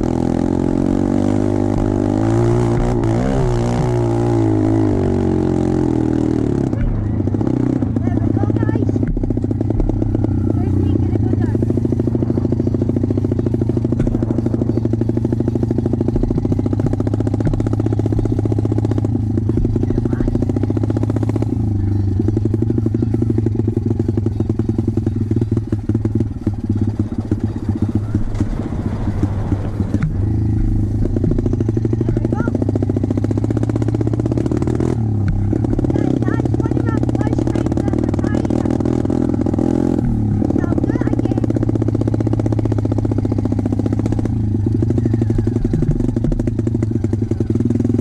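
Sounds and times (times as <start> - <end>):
motorbike engine running: 0.0 - 48.0.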